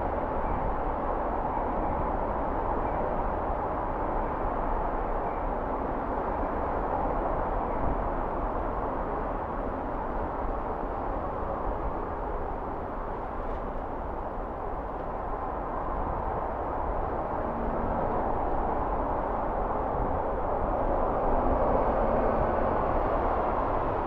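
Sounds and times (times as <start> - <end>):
city traffic hum: 0.0 - 24.0.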